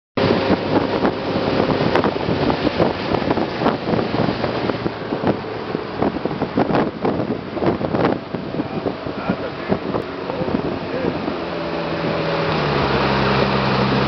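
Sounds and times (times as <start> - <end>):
boat jolts: 0.2 - 14.0
water rushing past hull: 0.2 - 14.0
wind buffeting microphone: 0.2 - 14.0.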